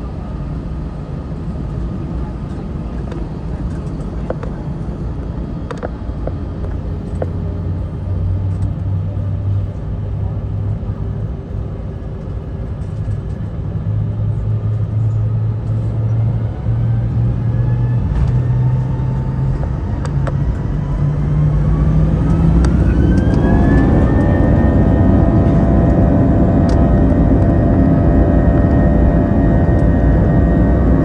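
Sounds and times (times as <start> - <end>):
deep rumble from runway: 0.0 - 31.0
high engine whine: 0.0 - 31.0
jet engines at takeoff power: 0.0 - 31.0.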